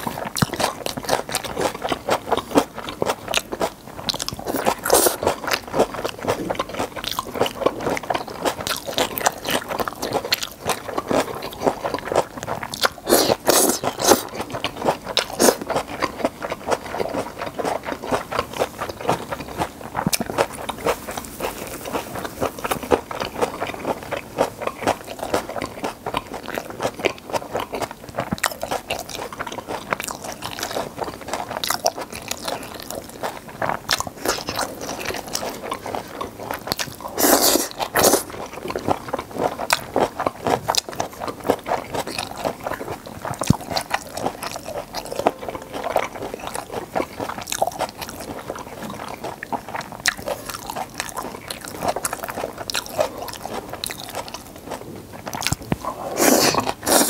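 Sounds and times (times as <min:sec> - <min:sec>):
chewing and mouth smacking: 0:00.0 - 0:57.0.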